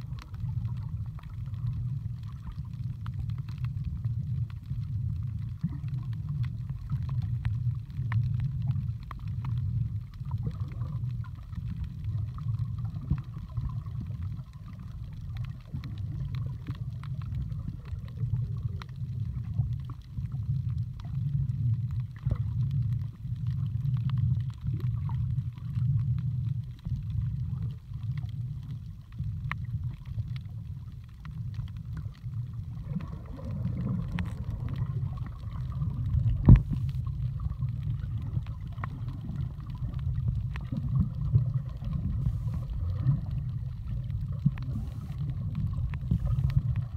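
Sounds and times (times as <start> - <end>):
muffled underwater water rumble: 0.0 - 46.9
faint clicks: 0.1 - 46.9.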